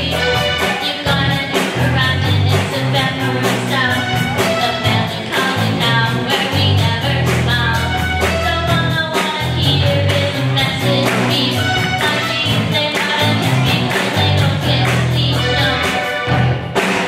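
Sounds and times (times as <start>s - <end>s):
girl singing: 0.0s - 16.0s
bass guitar: 0.0s - 17.0s
drum kit: 0.0s - 17.0s
electric guitar: 0.0s - 17.0s
keyboard: 0.0s - 17.0s.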